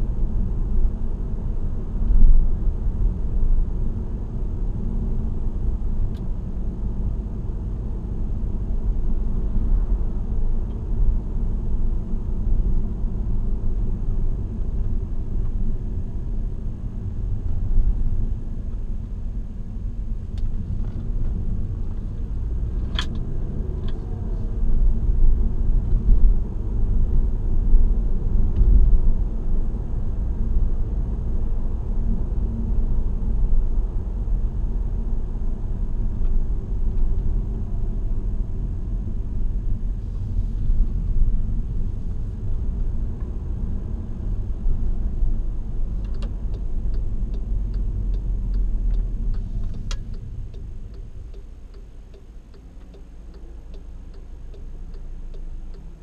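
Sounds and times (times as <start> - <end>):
car interior road and engine noise: 0.0 - 56.0.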